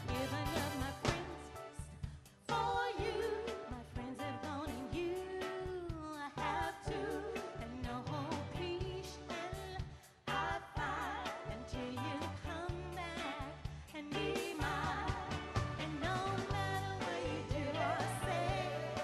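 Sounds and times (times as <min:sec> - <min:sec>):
band playing soul-pop: 0:00.0 - 0:19.0.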